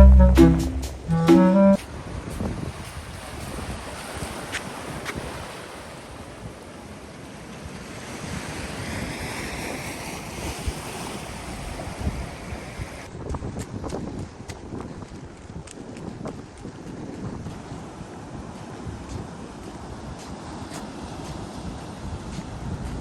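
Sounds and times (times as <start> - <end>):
ocean surf washing on beach: 1.5 - 13.2, 14.0 - 23.0
wind rumbling on microphone: 1.9 - 6.6, 7.6 - 23.0.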